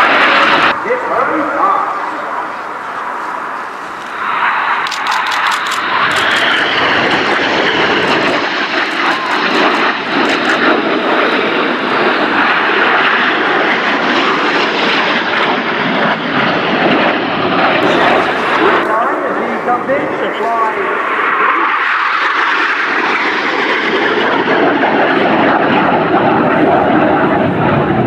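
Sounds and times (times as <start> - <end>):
falling jet whine: 0.0 - 28.0
jet roar: 0.0 - 28.0.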